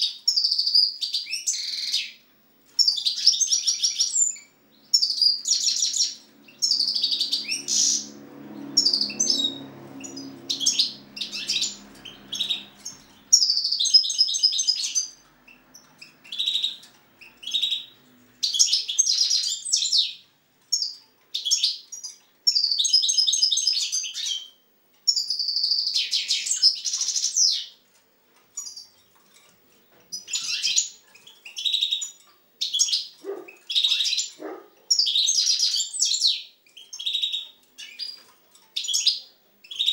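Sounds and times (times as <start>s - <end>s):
goldfinch singing: 0.0s - 27.8s, 28.5s - 39.9s.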